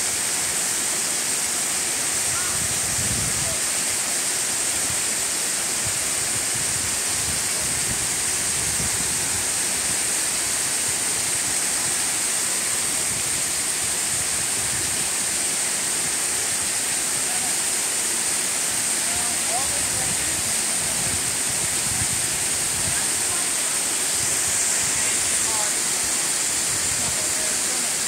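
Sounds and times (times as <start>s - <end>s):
waterfall rushing into pool: 0.0s - 28.0s.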